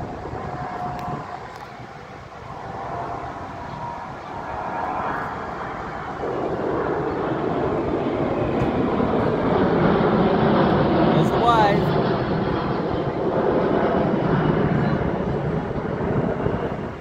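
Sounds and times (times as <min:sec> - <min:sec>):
jet aircraft fly-by: 0:00.0 - 0:17.0.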